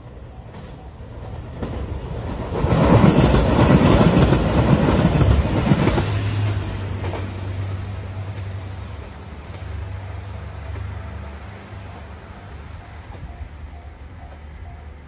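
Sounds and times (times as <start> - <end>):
train wheels rumbling and clacking: 0.0 - 15.0.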